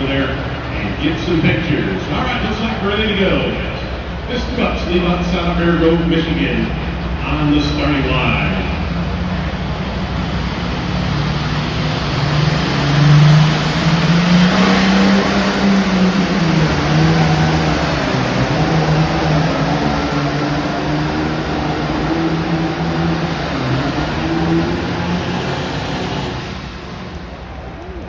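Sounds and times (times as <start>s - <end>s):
diesel tractor engine at full throttle: 0.0s - 28.0s.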